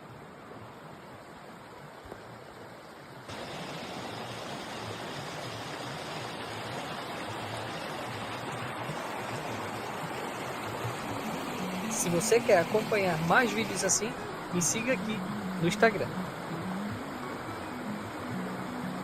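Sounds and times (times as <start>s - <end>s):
creek running over rocks: 0.0s - 19.0s.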